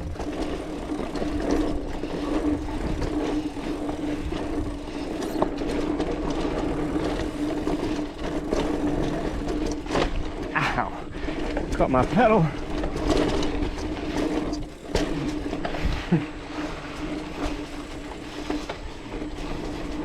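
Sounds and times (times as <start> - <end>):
bike clicks and rattles: 0.0 - 20.0
bike tyres rolling on dirt: 0.0 - 20.0.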